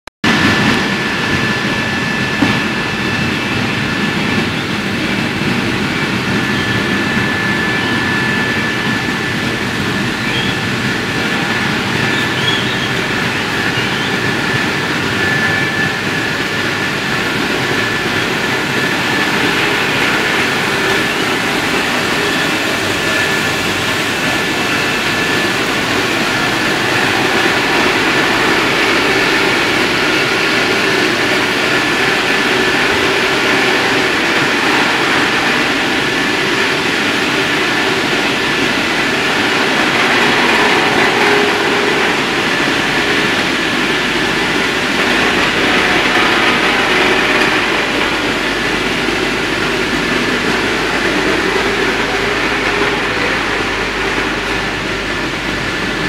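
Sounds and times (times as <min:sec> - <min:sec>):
blower fans blowing air: 0:00.2 - 0:56.0.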